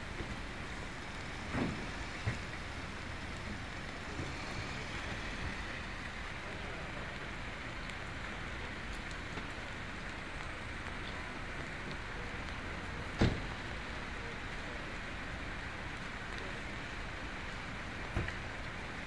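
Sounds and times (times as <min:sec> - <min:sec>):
tyres hissing on wet road: 0:00.0 - 0:19.0
vehicles driving past: 0:00.0 - 0:19.0.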